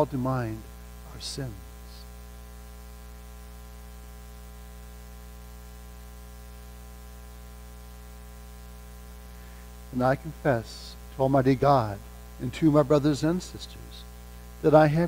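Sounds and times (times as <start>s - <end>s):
buzzy mains hum: 0.0s - 15.0s
faint hiss: 0.0s - 15.0s.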